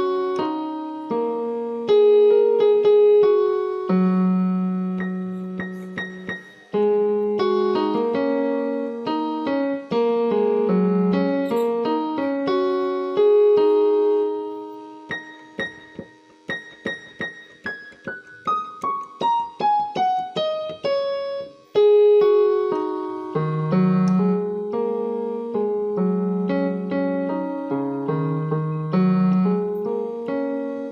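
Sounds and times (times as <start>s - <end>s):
solo piano music: 0.0s - 30.9s.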